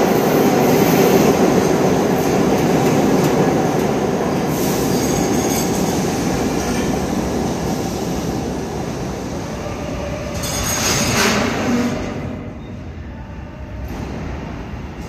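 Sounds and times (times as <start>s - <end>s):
subway train wheels rumbling and squealing: 0.0s - 15.0s.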